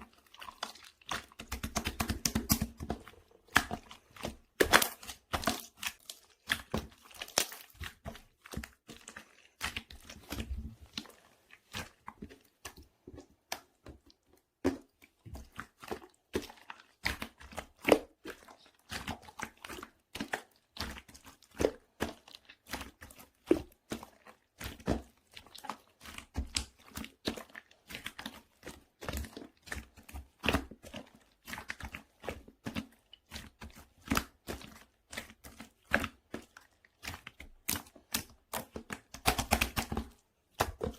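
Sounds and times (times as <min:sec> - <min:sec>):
slime crackling and squishing: 0:00.0 - 0:40.9.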